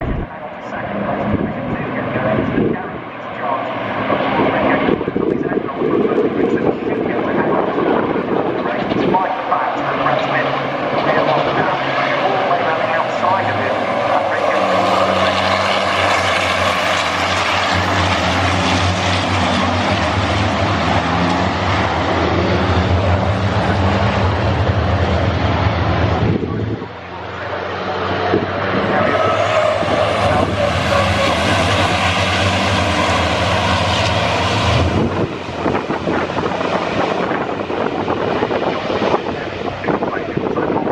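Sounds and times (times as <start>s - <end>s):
racing truck engines droning: 0.0s - 40.9s.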